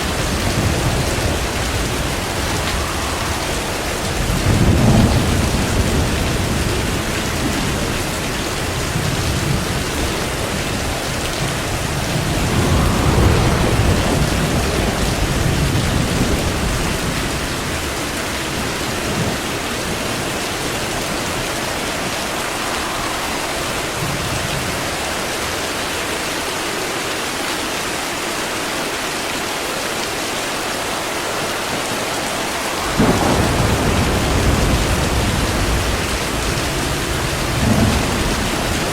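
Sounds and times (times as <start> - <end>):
rolling thunder: 0.0 - 26.1, 30.6 - 38.9
heavy rain: 0.0 - 38.9.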